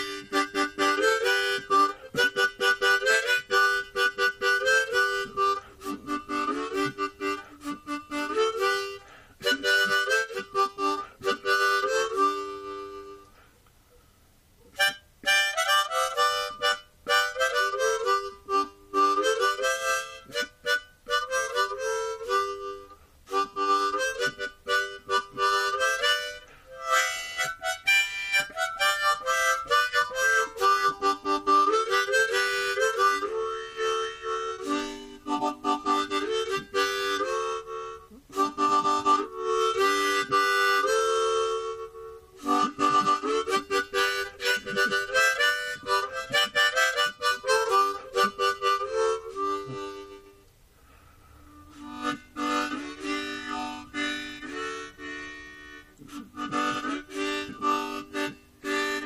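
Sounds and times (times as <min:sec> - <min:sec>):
harmonica melody: 0:00.0 - 0:13.5, 0:14.7 - 0:59.0.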